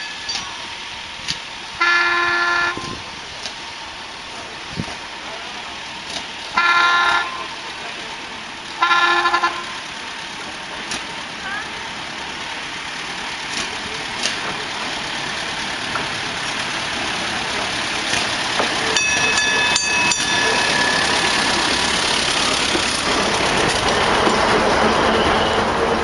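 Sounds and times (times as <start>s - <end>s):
railcar passing on track: 0.0s - 26.0s.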